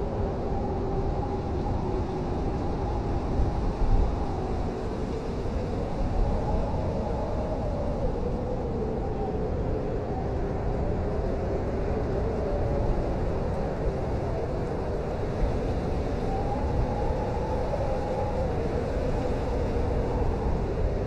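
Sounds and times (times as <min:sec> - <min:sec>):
howling blizzard wind: 0:00.0 - 0:21.0.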